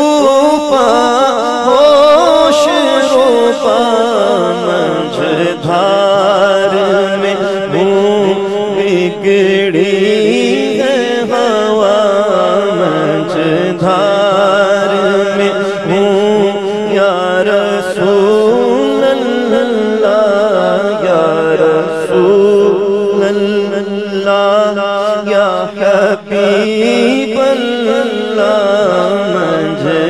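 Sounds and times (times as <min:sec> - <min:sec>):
man singing into a microphone: 0:00.0 - 0:30.0.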